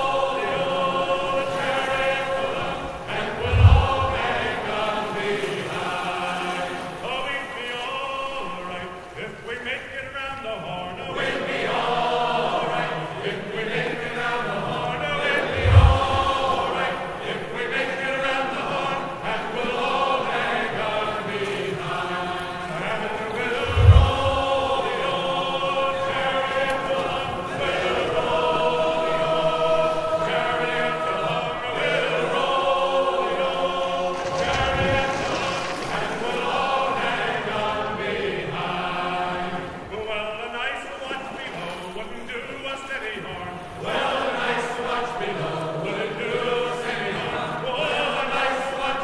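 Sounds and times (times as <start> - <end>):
choral chanting: 0.0 - 49.0.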